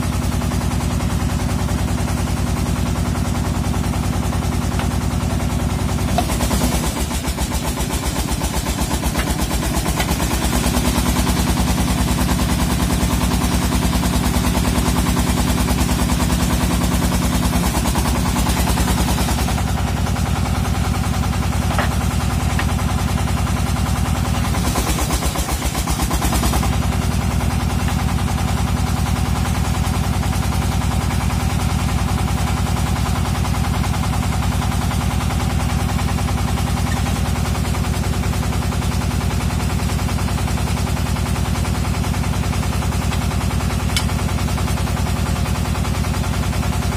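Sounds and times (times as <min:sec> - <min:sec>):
drilling machine engine knocking: 0:00.0 - 0:46.9.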